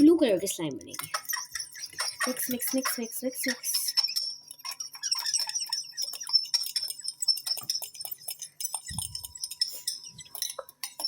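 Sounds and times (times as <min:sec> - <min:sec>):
spoon clinking and scraping bowl: 0:00.2 - 0:11.0.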